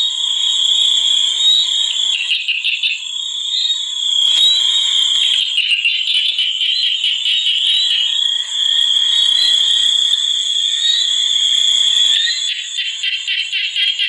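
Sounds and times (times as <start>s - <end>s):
frogs and insects trilling: 0.0s - 14.0s
shrill high insect layer: 0.0s - 14.0s.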